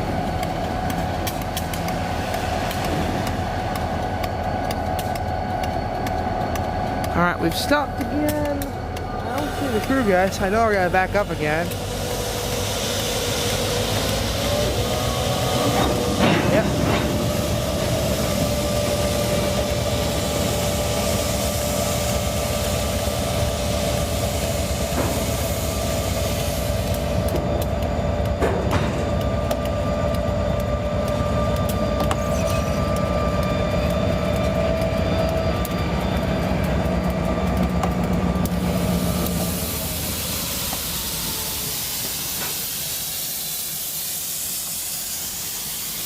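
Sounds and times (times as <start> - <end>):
locomotives idling: 0.0 - 46.0.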